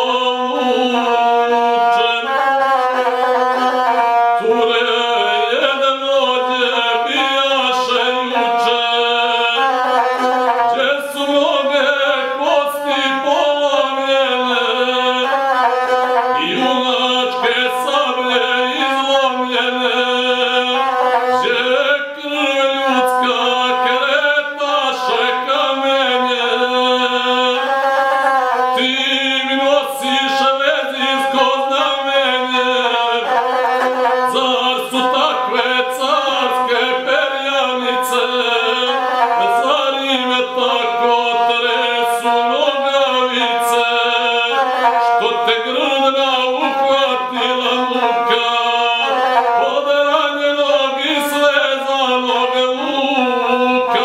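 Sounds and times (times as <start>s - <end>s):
bowed single-string instrument: 0.0s - 54.0s
man singing: 0.0s - 54.0s.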